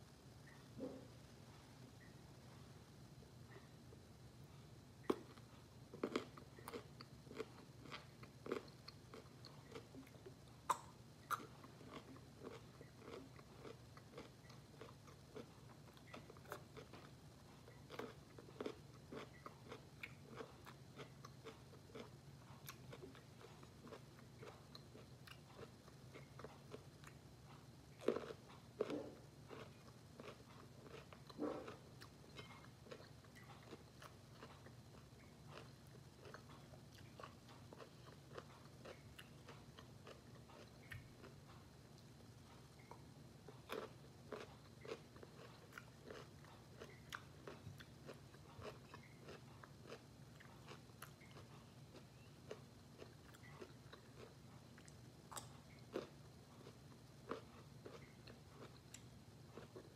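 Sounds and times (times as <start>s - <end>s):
faint low hum: 0.0s - 59.9s
person chewing crunchy pickles: 3.5s - 59.9s.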